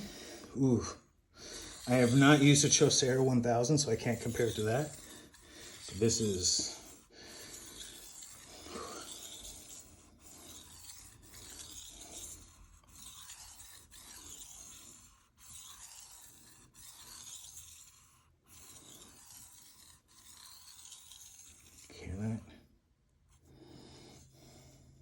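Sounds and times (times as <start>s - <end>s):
knife scraping on whetstone: 1.4s - 22.4s.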